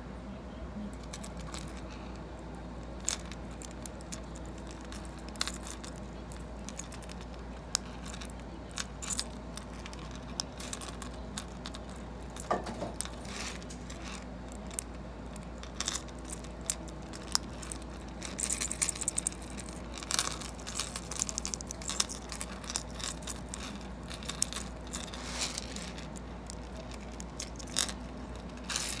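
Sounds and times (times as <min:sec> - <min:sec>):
chain links clinking: 0:03.0 - 0:29.0.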